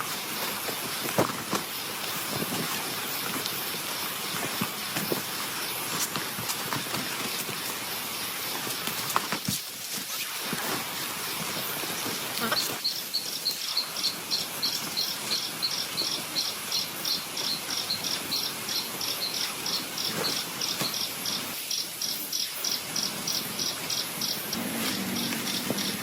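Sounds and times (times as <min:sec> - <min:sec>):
constant background hiss: 0:00.0 - 0:26.0
insect chirping: 0:00.1 - 0:09.5, 0:10.1 - 0:26.0.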